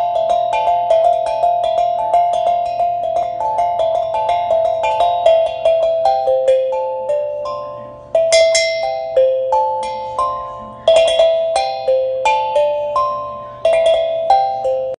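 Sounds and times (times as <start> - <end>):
tongue drum melody: 0.0 - 15.0.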